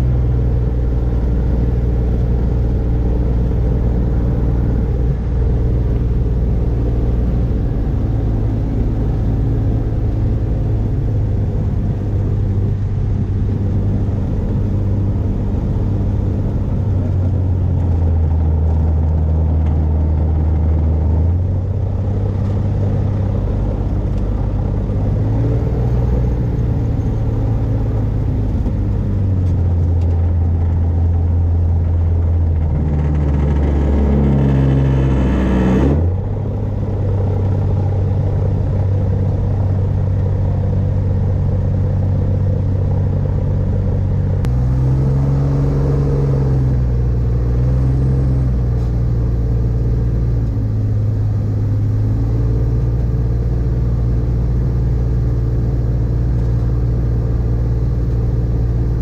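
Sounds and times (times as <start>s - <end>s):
two-stroke engine and propeller: 0.0s - 59.0s.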